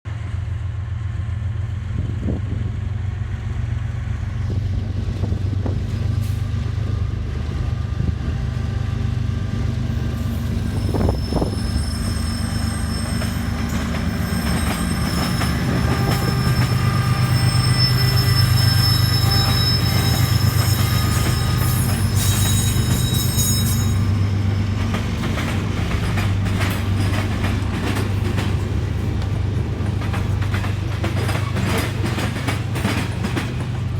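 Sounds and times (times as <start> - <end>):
diesel locomotive drone: 0.1 - 33.9
wheels squealing on rail: 5.9 - 33.9.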